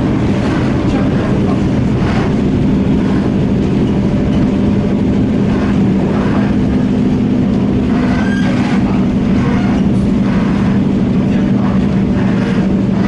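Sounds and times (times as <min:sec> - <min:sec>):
low hum: 0:00.0 - 0:13.0
train wheels rumbling on rail: 0:00.0 - 0:13.0.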